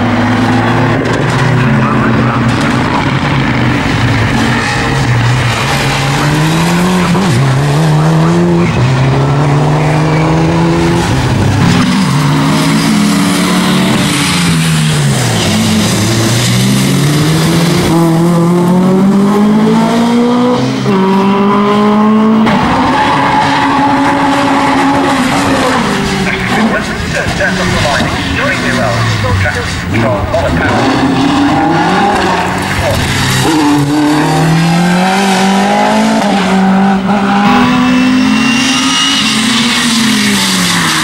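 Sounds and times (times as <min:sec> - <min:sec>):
rally car engines at full throttle: 0:00.0 - 0:41.0.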